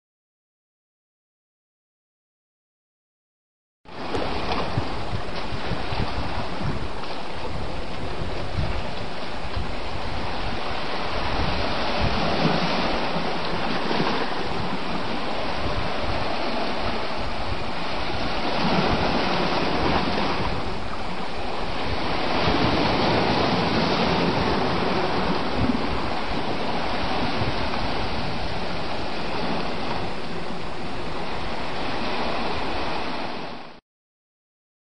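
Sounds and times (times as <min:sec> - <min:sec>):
wind buffeting microphone: 0:03.9 - 0:33.6
ocean surf on rocks: 0:03.9 - 0:33.8.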